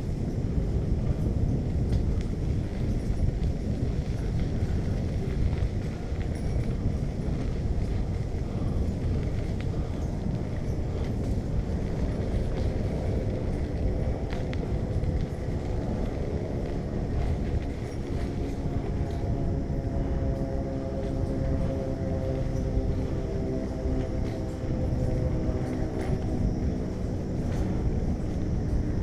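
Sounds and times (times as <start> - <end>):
bicycle riding noise: 0.0 - 29.0
faint steady hum: 0.0 - 29.0
wind rumble: 0.0 - 29.0.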